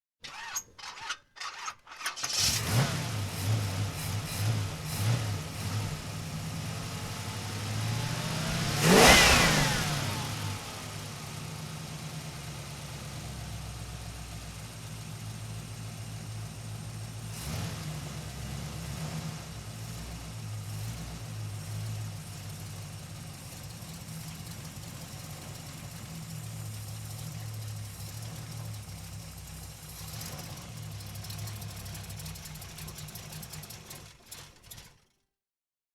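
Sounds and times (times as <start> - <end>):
car engine idling and revving: 2.2 - 35.1.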